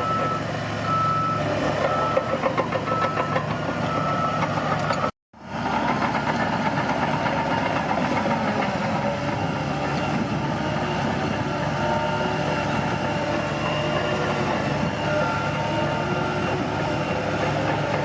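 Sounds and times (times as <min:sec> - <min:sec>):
bulldozer running: 0:00.0 - 0:18.0.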